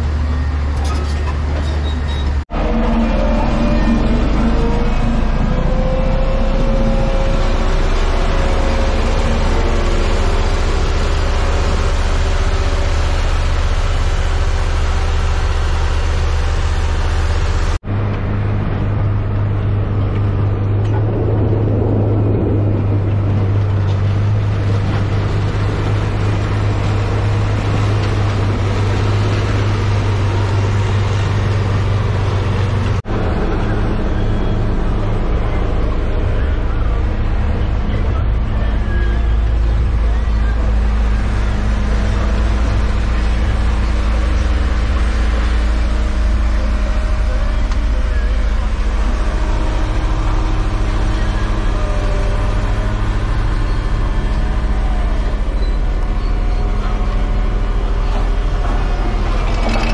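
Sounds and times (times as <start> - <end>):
heavy machine engine droning: 0.0 - 59.9.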